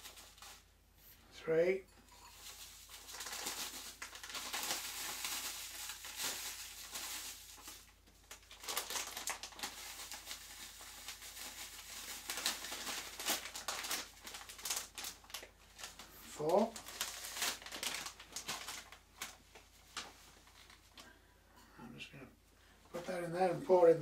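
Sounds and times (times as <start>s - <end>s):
plastic bag crinkling: 0.0s - 0.7s, 2.2s - 21.2s.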